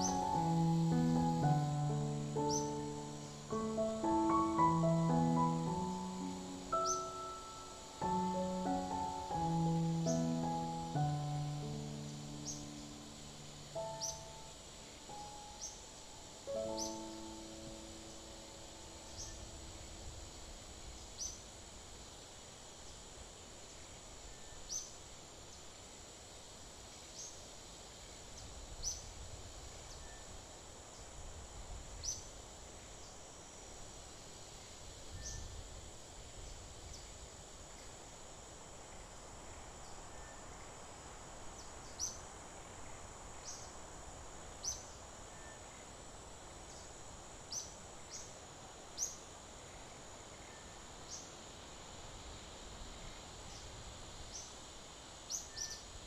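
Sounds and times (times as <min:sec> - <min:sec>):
high-pitched insect hum: 0:00.0 - 0:56.0.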